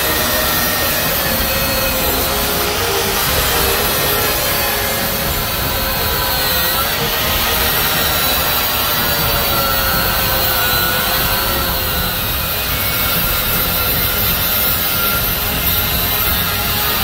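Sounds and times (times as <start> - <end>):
angle grinder cutting steel: 0.0 - 17.0.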